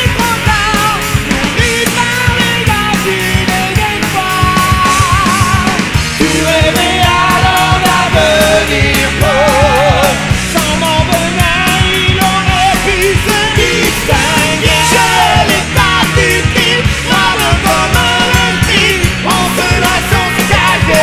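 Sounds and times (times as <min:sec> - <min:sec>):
driving drum beat: 0:00.0 - 0:21.0
person singing: 0:00.0 - 0:21.0
punk rock song: 0:00.0 - 0:21.0.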